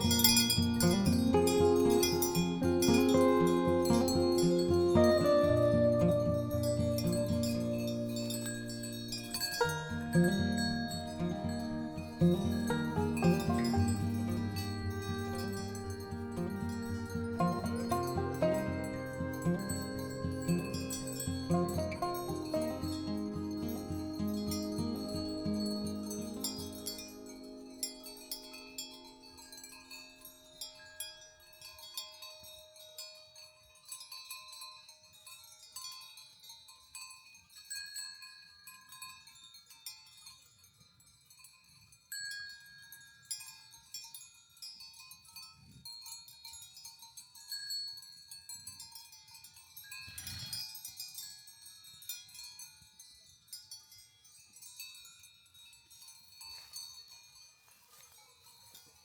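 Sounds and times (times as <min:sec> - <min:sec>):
livestock bells tinkling: 0:00.0 - 0:59.0.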